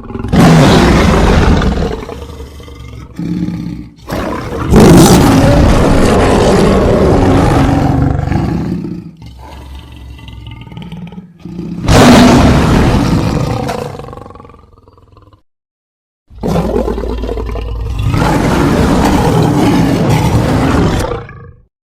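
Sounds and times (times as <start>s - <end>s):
lion growling: 0.0s - 15.4s, 16.4s - 21.7s
lion roaring: 0.0s - 15.4s, 16.4s - 21.7s.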